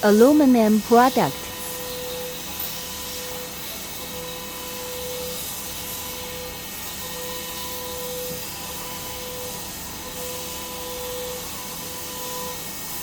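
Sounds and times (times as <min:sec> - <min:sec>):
cnc machine cutting metal: 0:00.0 - 0:13.0.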